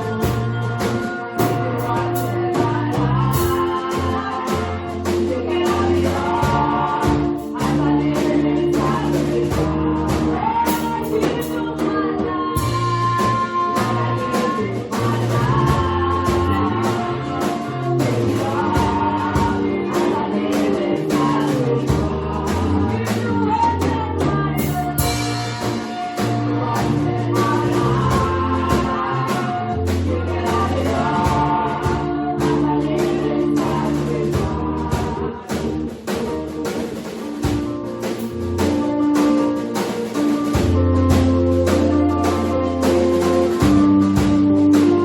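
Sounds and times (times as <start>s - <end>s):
choir singing gospel: 0.0s - 45.0s
live band playing: 0.0s - 45.0s.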